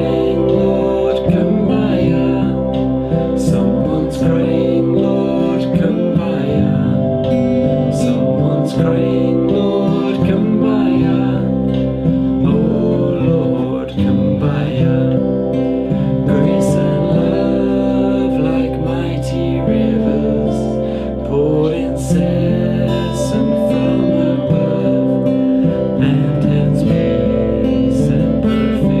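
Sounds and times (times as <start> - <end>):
hymn on acoustic guitar: 0.0 - 29.0.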